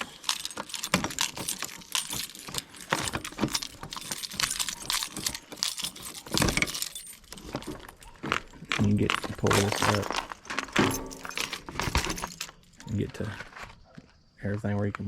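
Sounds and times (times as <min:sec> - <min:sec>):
metallic fastener clicks and rattles: 0:00.0 - 0:13.0
metal clatter: 0:00.0 - 0:13.6.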